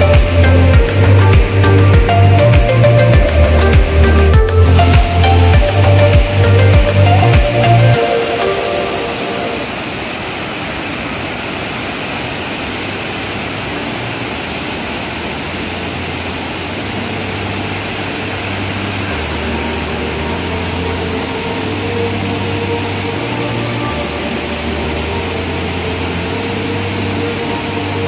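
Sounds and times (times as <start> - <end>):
water rushing over weir: 0.0 - 28.0.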